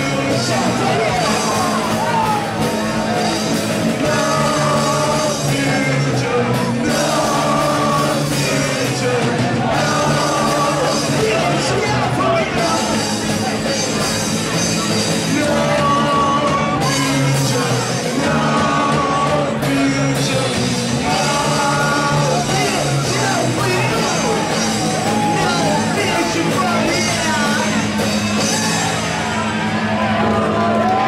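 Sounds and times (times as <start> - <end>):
rock band playing live: 0.0 - 31.0.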